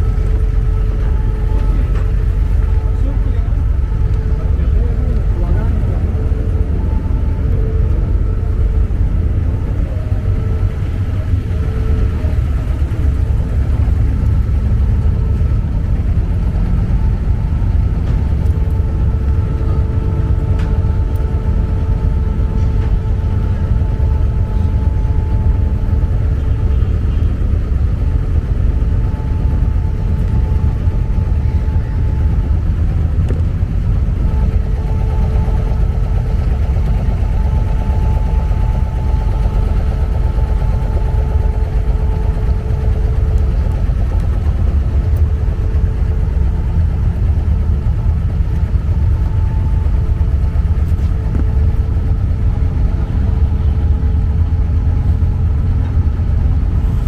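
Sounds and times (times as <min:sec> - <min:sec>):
diesel engine droning: 0:00.0 - 0:57.0
faint hum: 0:00.0 - 0:57.0.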